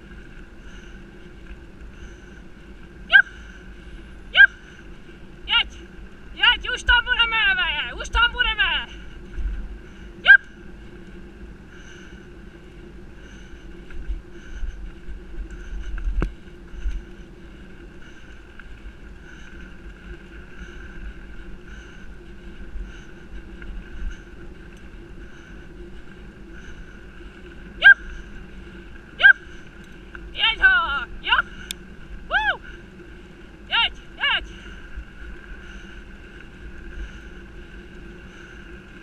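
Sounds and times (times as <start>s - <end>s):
bike tyres rolling on gravel: 0.0s - 39.0s
steady hum: 0.0s - 39.0s
wind buffeting microphone: 0.0s - 39.0s.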